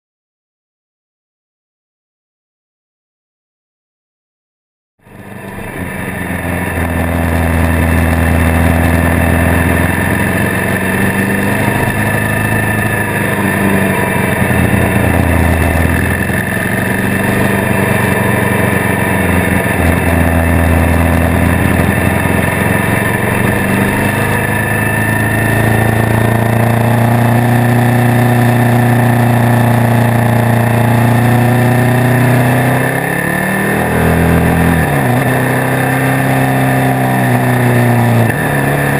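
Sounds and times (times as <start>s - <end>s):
motorcycle engine running: 5.0s - 38.9s
wind and road noise: 5.0s - 38.9s.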